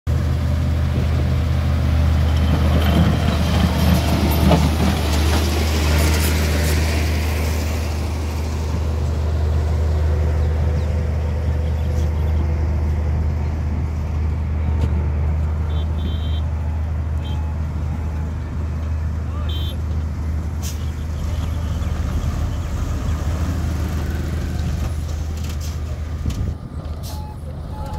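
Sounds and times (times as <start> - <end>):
diesel engine running: 0.1 - 27.9.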